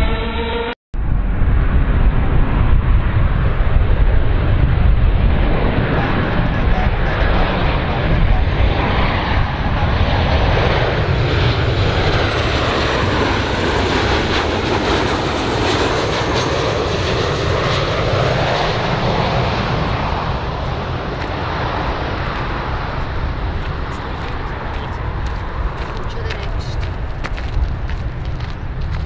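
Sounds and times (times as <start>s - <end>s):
airplane engines running: 0.0s - 29.0s.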